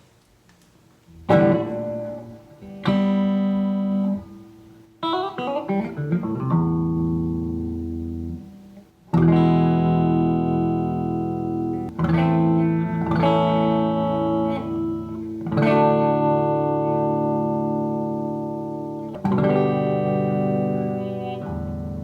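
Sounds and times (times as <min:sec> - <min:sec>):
electric guitar chords ringing: 0:01.1 - 0:22.0
picked guitar notes: 0:01.1 - 0:22.0.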